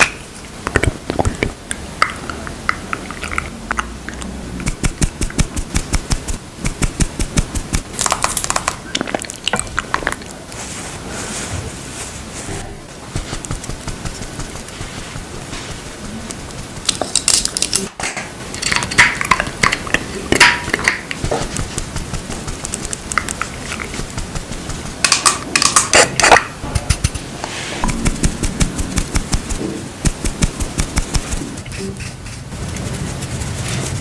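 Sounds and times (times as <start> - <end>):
powder brush clicks and taps: 0.0 - 10.3, 13.1 - 17.9, 18.6 - 32.5.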